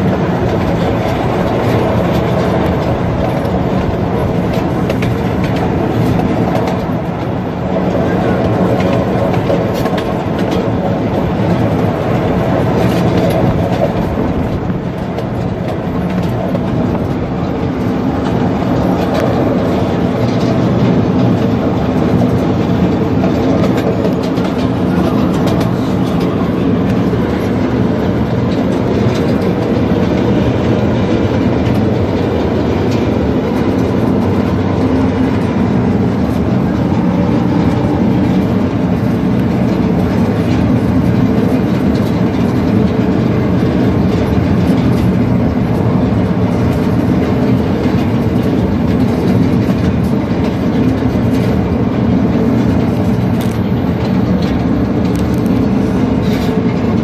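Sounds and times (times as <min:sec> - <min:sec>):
miniature train running: 0:00.0 - 0:57.0
wheels clicking on rails: 0:00.0 - 0:57.0.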